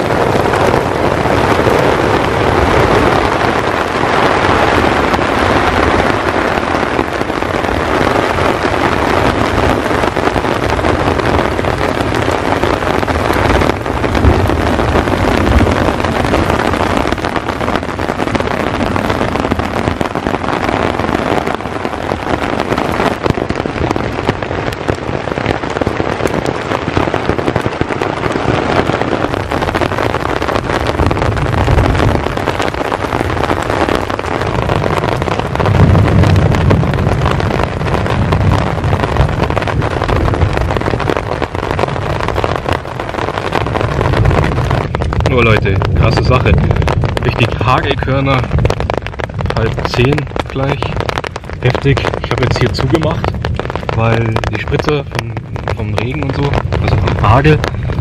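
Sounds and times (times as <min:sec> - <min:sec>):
deep rumble: 0:00.0 - 0:58.0
hail striking ground: 0:00.0 - 0:58.0.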